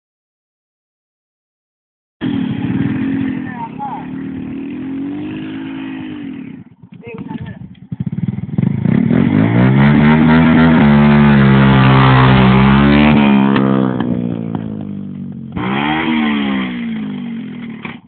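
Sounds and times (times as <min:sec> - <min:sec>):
motorcycle engine revving: 0:02.2 - 0:18.0.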